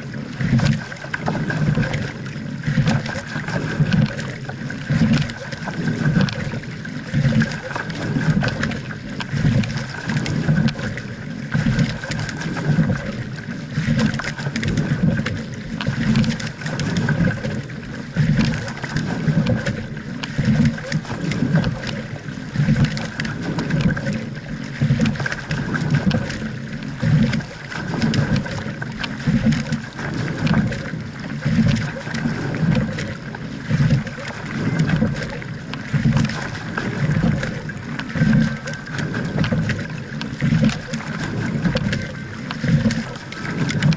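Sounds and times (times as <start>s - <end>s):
water rushing along boat hull: 0.0s - 43.9s.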